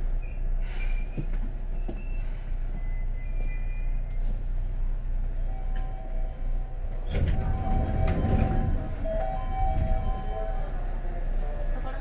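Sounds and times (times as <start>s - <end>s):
train car low rumble: 0.0s - 12.0s.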